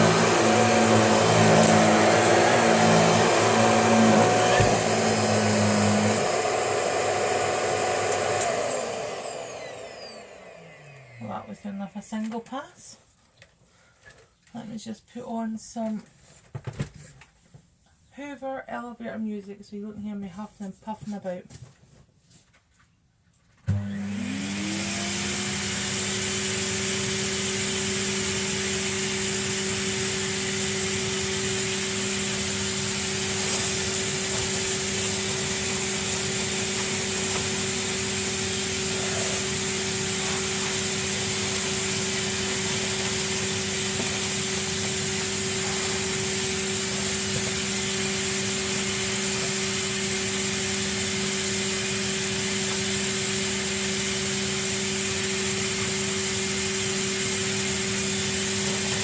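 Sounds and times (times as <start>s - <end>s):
vacuum cleaner running: 0.0s - 12.4s, 23.7s - 59.0s.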